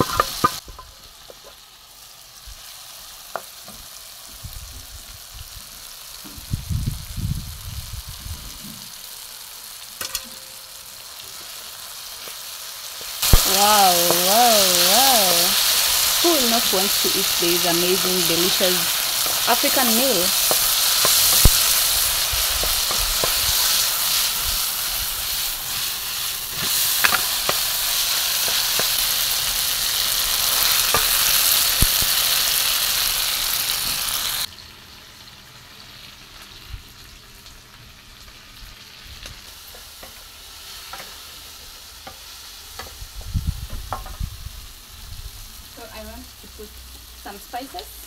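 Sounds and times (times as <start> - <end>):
meat sizzling in a pan: 0.0 - 48.0.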